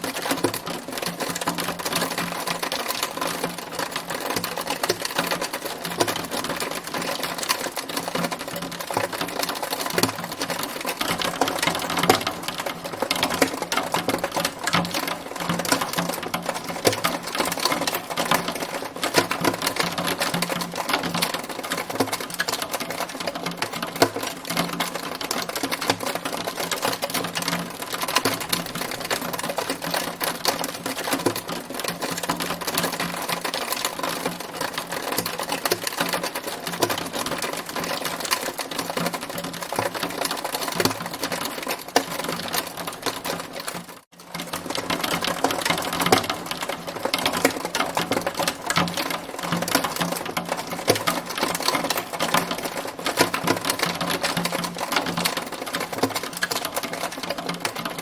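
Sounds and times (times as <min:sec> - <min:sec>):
hailstones striking hard surface: 0:00.1 - 0:58.0.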